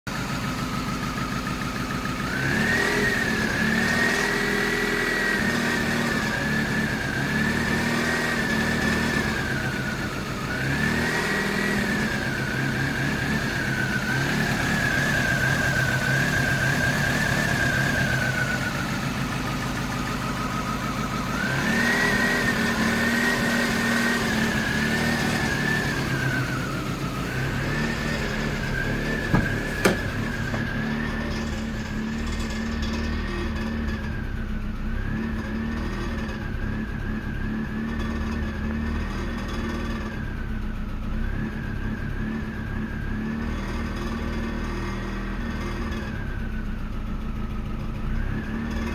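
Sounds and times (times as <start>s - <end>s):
car engine idling roughly: 0.1s - 48.9s.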